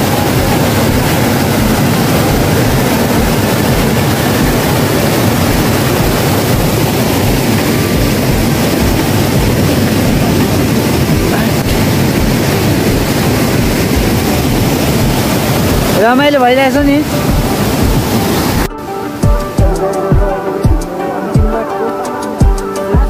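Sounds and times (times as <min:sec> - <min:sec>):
stream cascading over boulders: 0:00.0 - 0:22.6.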